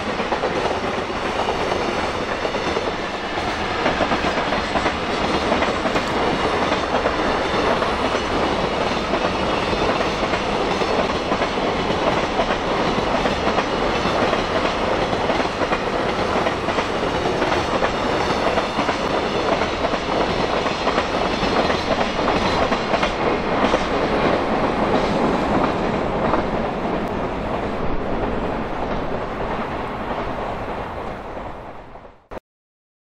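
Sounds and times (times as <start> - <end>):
train wheels rolling on rails: 0.0 - 32.3.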